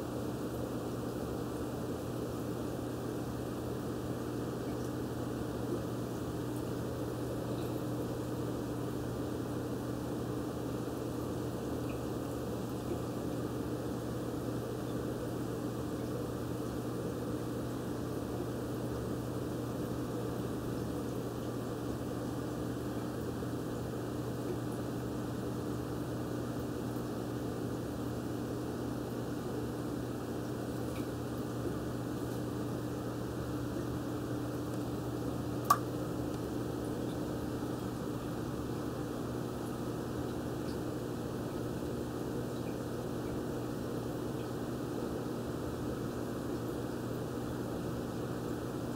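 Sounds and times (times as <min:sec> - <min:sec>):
aquarium filter humming: 0:00.0 - 0:48.9.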